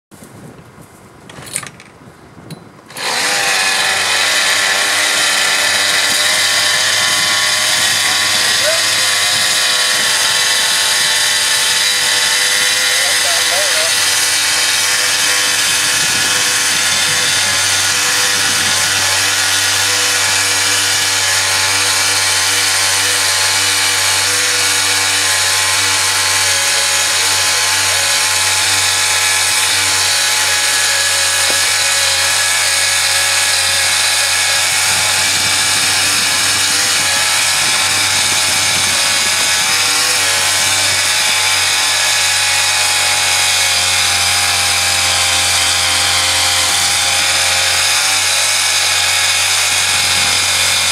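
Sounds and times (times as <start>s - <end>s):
winch motor running: 2.9s - 50.9s.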